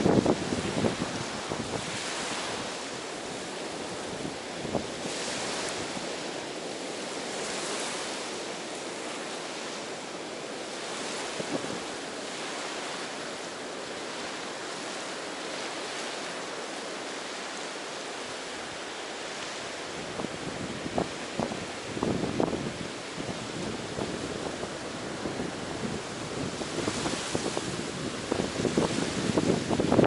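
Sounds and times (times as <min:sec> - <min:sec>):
ocean surf washing on beach: 0:00.0 - 0:30.0.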